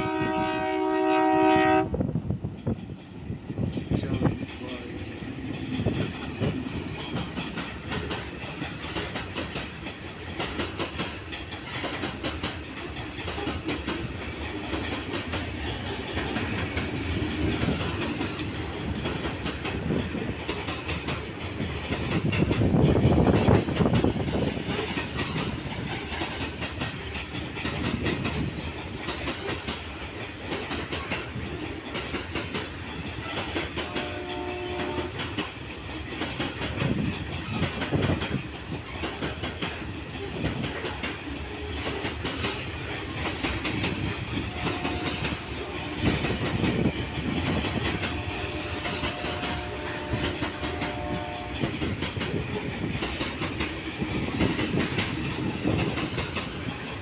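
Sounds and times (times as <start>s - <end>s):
train rumble: 0.0s - 57.0s
train wheels clicking over rail joints: 0.1s - 57.0s.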